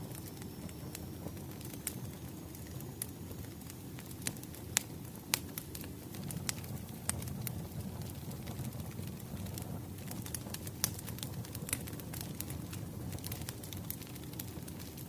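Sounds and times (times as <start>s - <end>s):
fire crackles and pops: 0.0s - 15.0s
flames rumbling: 0.0s - 15.0s.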